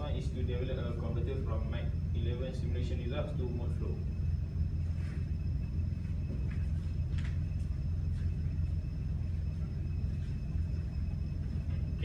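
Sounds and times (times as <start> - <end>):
faint high whine: 0.0 - 12.0
low room rumble: 0.0 - 12.0.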